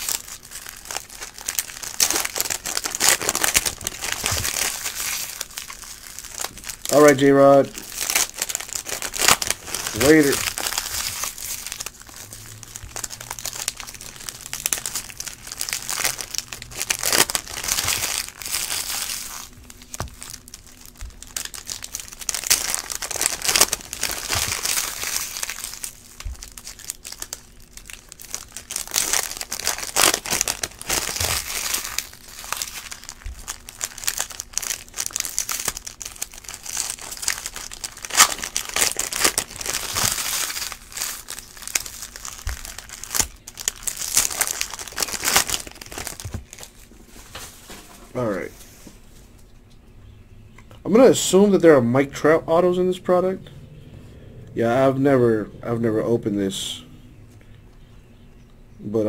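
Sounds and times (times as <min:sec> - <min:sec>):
plastic wrappers crinkling and tearing: 0:00.0 - 0:49.6.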